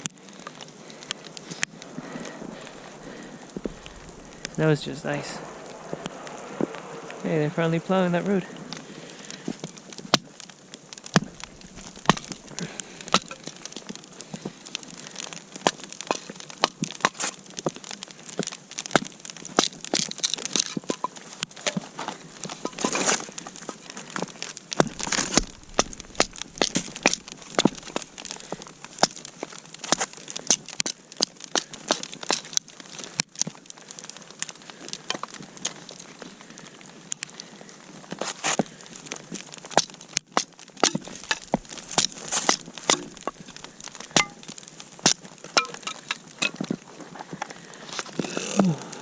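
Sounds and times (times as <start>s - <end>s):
snow and ice crunching: 0.0s - 49.0s.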